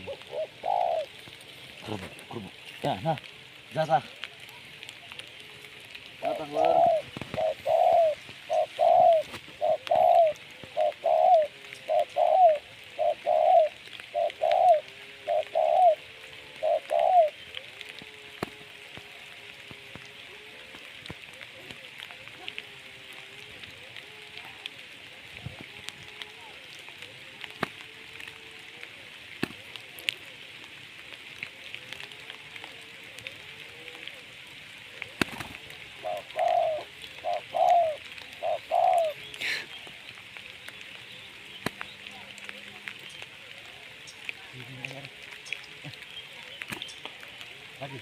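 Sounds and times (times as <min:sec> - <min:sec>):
dove cooing: 0:00.0 - 0:48.0
rain drop clicks: 0:00.0 - 0:48.0
rain hiss: 0:00.0 - 0:48.0.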